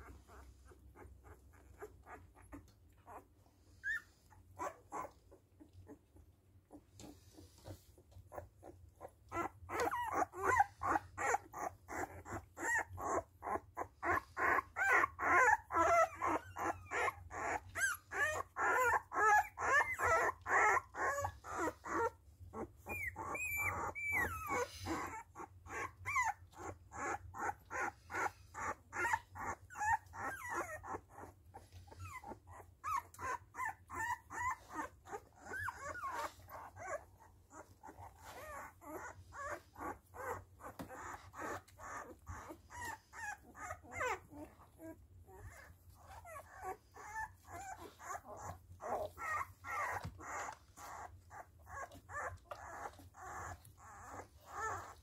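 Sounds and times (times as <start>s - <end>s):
puppies squeaking and whimpering: 0.0s - 55.0s
puppy high-pitched whine: 0.0s - 55.0s.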